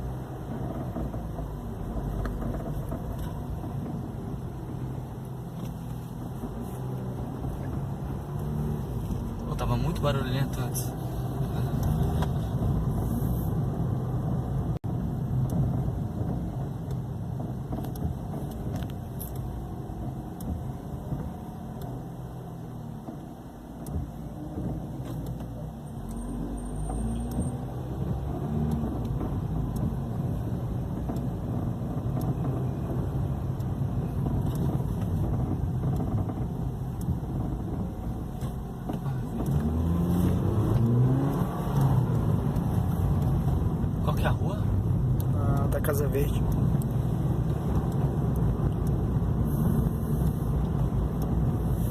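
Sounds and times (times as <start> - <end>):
car engine: 0.0 - 51.9
road noise: 0.0 - 51.9.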